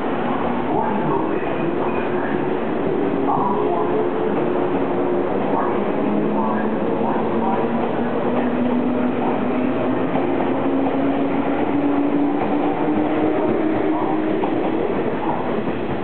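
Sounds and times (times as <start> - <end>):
rumble of passing train cars: 0.0 - 16.0.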